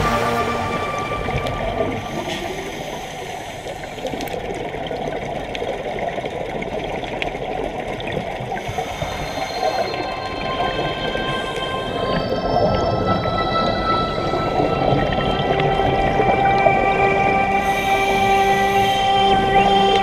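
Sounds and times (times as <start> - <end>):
underwater bubbling and rushing: 0.0 - 20.0.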